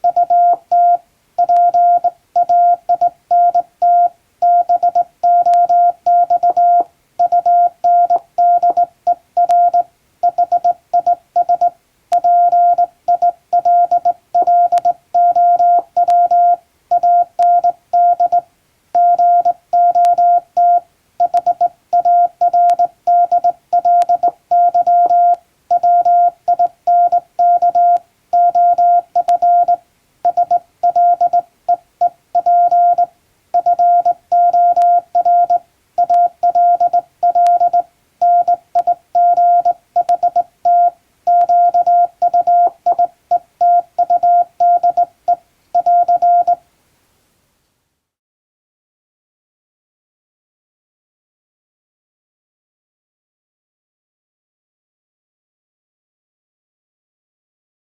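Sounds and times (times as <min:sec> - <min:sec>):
morse code tone: 0:00.0 - 0:46.6.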